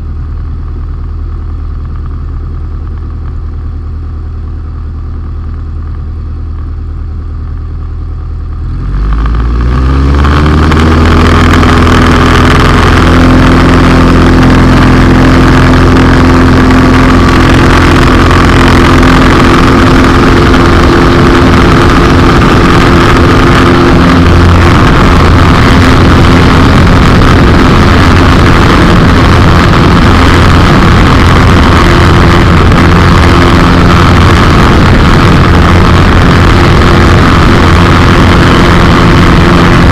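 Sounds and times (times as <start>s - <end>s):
light airplane engine and propeller: 0.0s - 39.9s.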